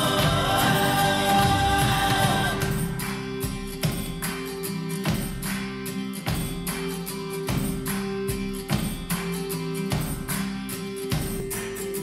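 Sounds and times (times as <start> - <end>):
strummed guitar through loudspeakers: 0.0 - 12.0.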